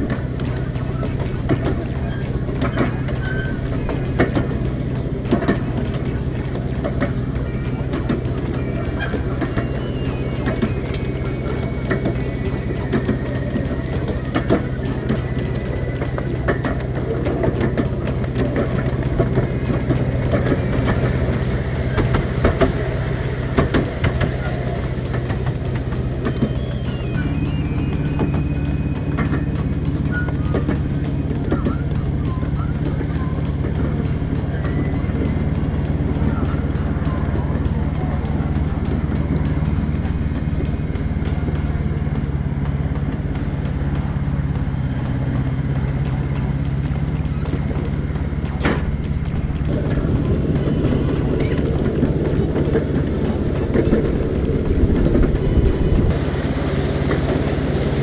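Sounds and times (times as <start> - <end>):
locomotive engine droning: 0.0 - 58.0
miniature train hum: 0.0 - 58.0
wheels clicking on track: 0.0 - 58.0.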